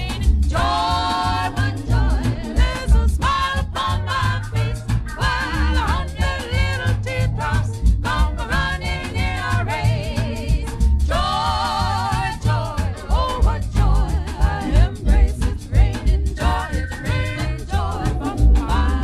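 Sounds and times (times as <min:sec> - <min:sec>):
band with bass and drum beat: 0:00.0 - 0:19.0
vocal group singing: 0:00.0 - 0:19.0.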